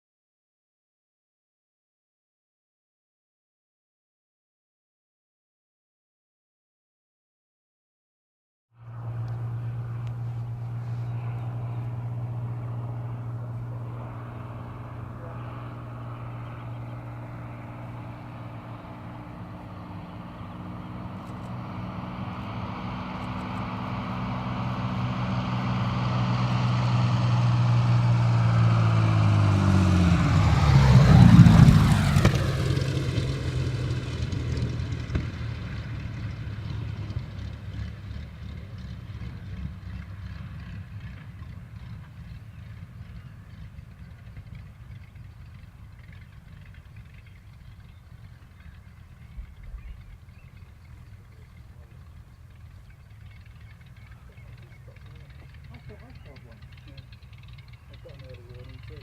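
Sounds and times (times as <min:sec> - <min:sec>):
propeller aircraft engine drone: 0:08.8 - 0:59.0.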